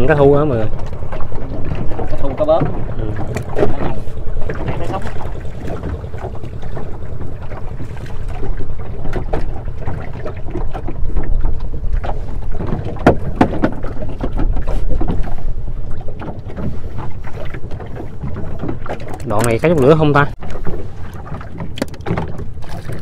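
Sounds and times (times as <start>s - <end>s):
water lapping against boat hull: 0.0s - 23.0s
wind rumbling on microphone: 0.0s - 23.0s.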